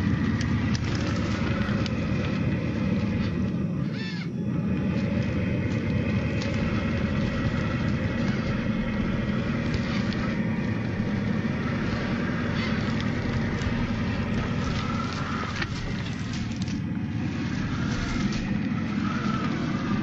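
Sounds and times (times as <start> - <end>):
branches clicking and crackling: 0.0 - 20.0
electric motor and gearbox running: 0.0 - 20.0.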